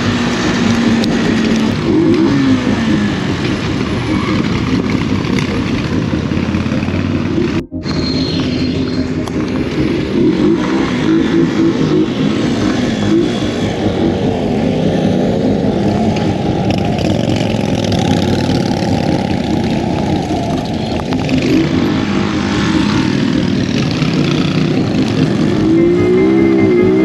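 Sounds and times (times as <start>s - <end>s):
motorcycle engines accelerating: 0.0s - 27.0s.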